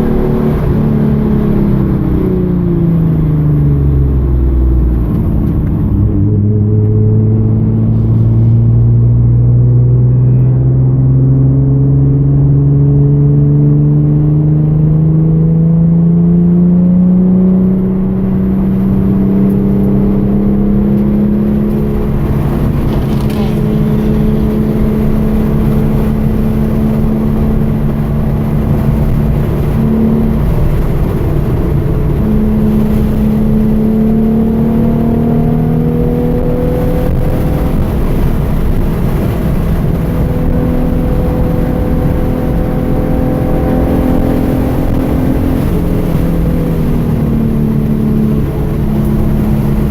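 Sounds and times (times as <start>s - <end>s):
car engine pulling under load: 0.0s - 49.9s.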